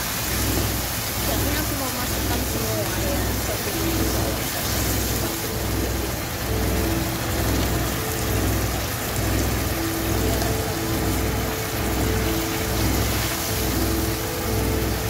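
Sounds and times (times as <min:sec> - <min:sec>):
low rumble: 0:00.0 - 0:15.0
sauce sizzling and bubbling: 0:00.0 - 0:15.0.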